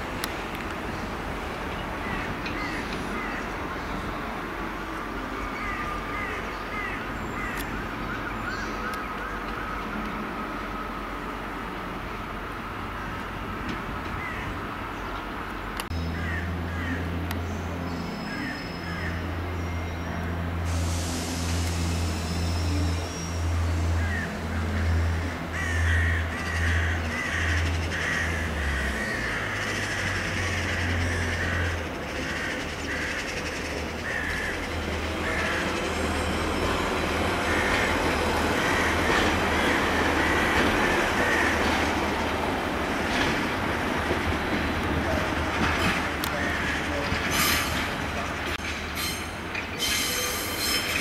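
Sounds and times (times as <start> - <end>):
train running slowly: 0.0 - 51.0.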